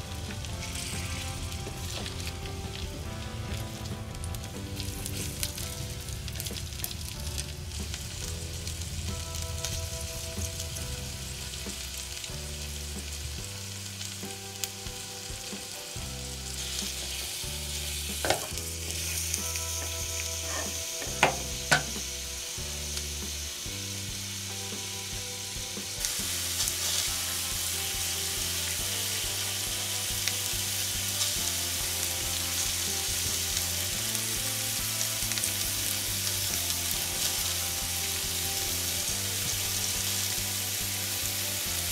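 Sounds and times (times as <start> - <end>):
mushrooms sizzling in a pan: 0.0 - 41.9.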